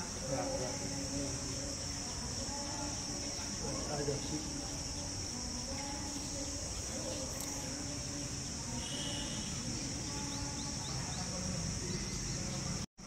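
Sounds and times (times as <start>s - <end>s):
insects chirring: 0.0s - 12.9s.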